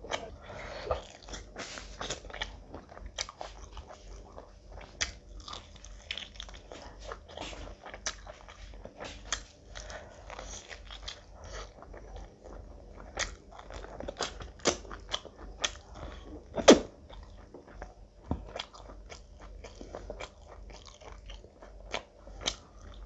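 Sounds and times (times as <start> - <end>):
chewing and biting food: 0.1 - 23.0.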